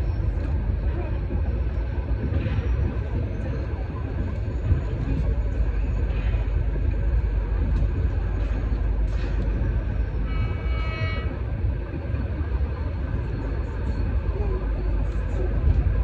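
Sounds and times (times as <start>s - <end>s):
low rumble of moving vehicle: 0.0s - 16.0s.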